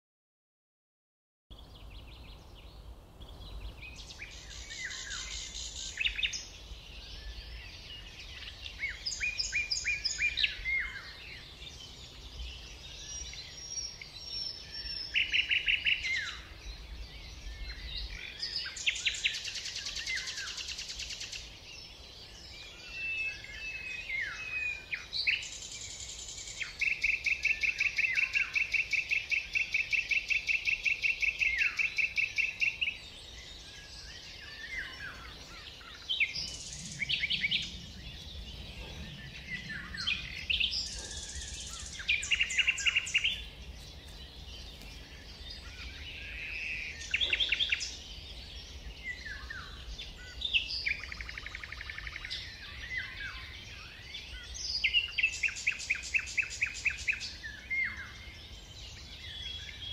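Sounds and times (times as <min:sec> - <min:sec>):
songbirds chirping and trilling: 0:01.5 - 0:59.9.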